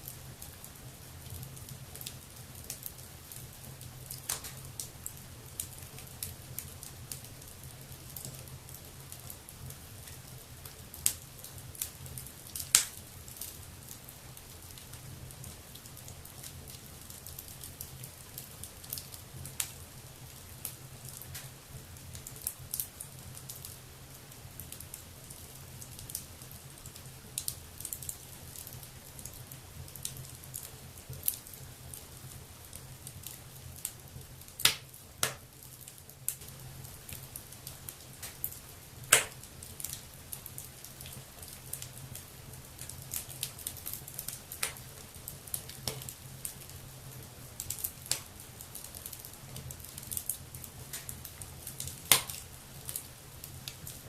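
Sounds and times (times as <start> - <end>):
fire crackling and popping: 0.0 - 54.0
wood fire rumbling: 0.0 - 54.0.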